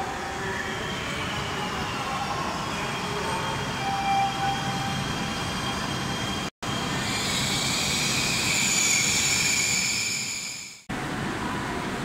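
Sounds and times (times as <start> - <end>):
electric train rushing: 0.0 - 11.9.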